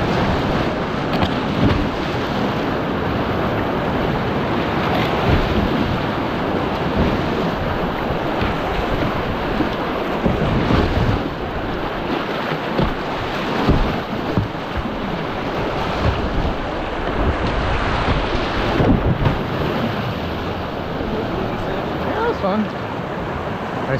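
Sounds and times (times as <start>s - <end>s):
wind buffeting microphone: 0.0s - 22.3s
paddle strokes splashing: 0.0s - 22.6s
whitewater rapids rushing: 0.0s - 23.9s.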